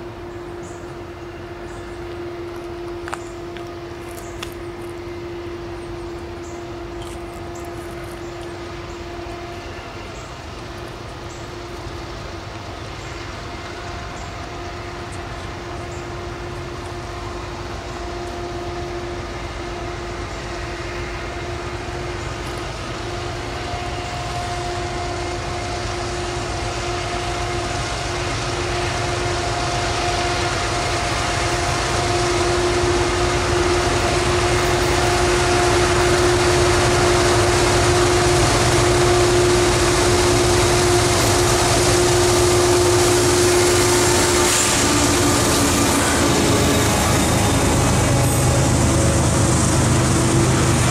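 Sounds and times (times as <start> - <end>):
locomotive engine hum: 0.0 - 50.9
rail and wheel noise: 0.0 - 50.9.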